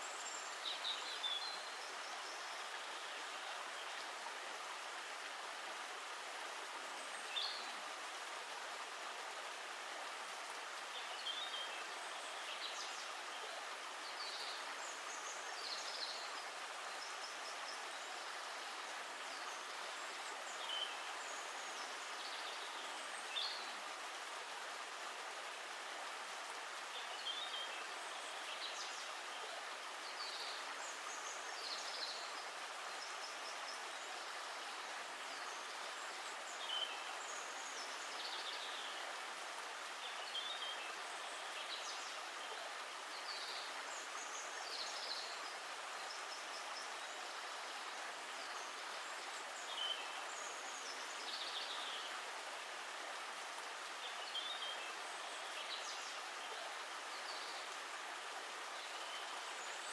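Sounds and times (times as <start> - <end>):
running water hiss: 0.0 - 59.9.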